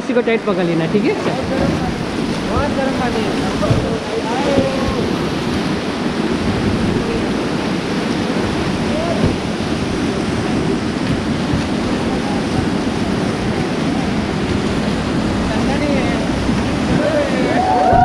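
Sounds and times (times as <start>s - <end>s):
whitewater rapids rushing: 0.0s - 18.0s
wind buffeting microphone: 0.0s - 18.0s.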